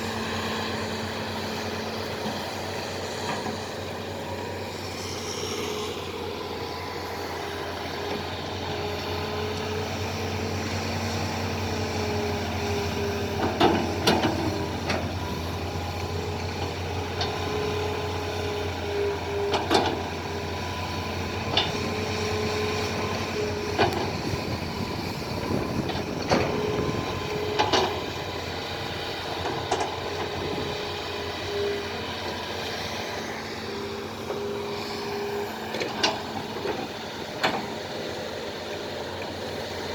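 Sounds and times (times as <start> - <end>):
diesel engine running with whine: 0.0 - 39.9.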